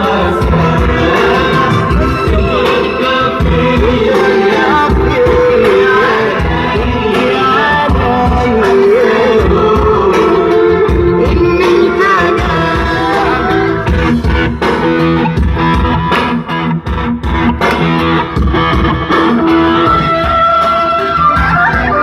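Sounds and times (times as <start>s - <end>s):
bass: 0.0s - 22.0s
electric guitar: 0.0s - 22.0s
steady beat: 0.0s - 22.0s.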